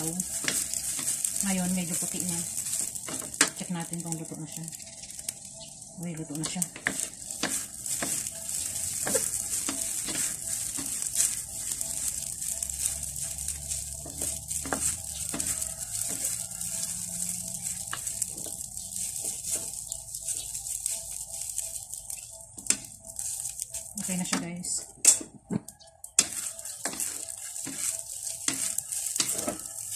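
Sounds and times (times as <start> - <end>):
wooden spatulas scraping a pan: 0.0 - 3.7, 6.4 - 29.9
noodles sizzling in a wok: 0.0 - 29.9.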